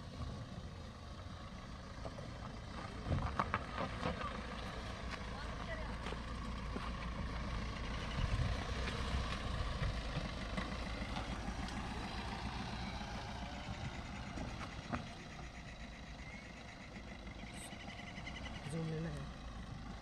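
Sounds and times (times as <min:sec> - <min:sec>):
car driving on gravel: 0:00.0 - 0:20.0.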